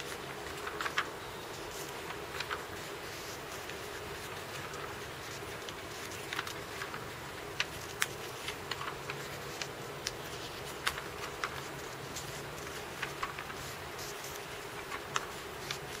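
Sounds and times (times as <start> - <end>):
sketchbook pages turning: 0.0 - 16.0
steady hiss: 0.0 - 16.0.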